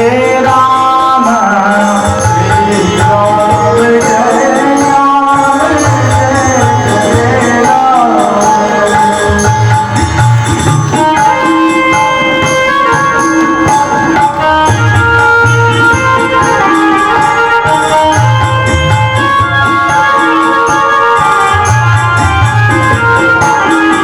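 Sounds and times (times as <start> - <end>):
steady drum rhythm: 0.0 - 24.0.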